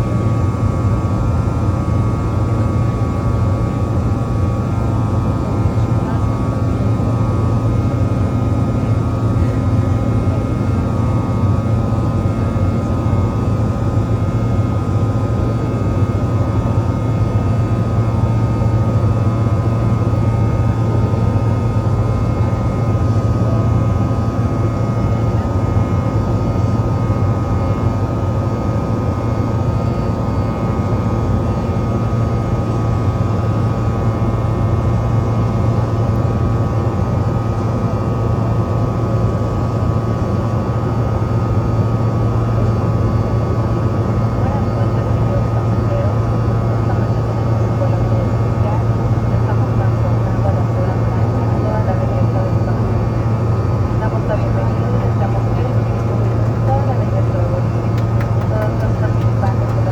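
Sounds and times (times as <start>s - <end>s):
jet engines droning: 0.0s - 59.9s.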